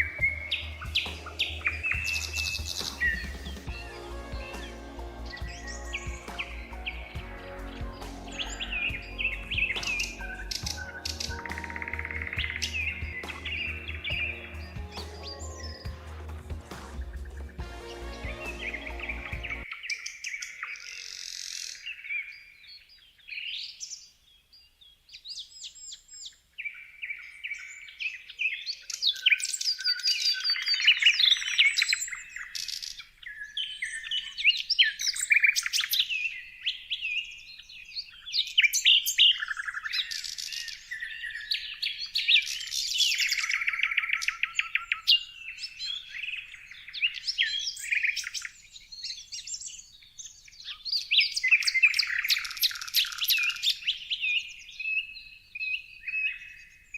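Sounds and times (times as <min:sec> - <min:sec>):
birds singing and chirping: 0:00.0 - 0:56.9.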